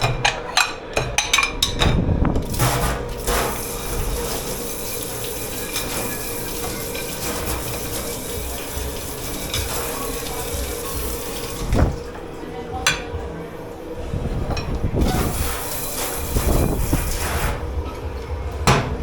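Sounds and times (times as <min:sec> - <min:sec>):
water running into a sink: 0:01.2 - 0:13.0, 0:14.4 - 0:18.0.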